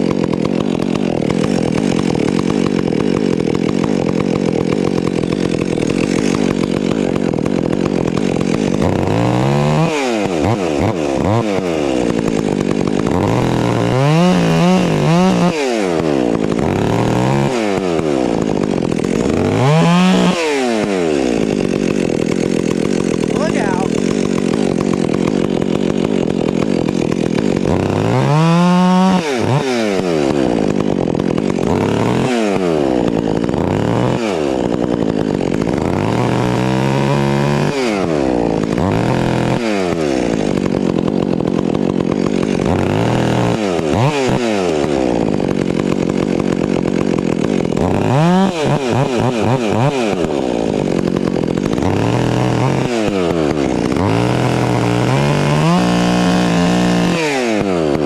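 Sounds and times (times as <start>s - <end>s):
chainsaws cutting at high revs: 0.0s - 58.0s.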